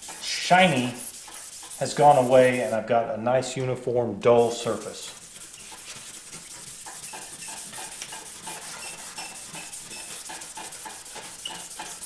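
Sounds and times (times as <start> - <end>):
scouring pad scrubbing metal plate: 0.0 - 2.8, 4.4 - 12.0.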